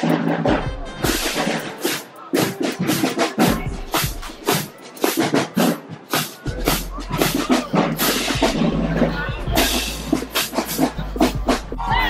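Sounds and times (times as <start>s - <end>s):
crowd voices: 0.0s - 12.0s
drums beating steady rhythm: 0.0s - 12.0s
marching band playing: 0.0s - 12.0s.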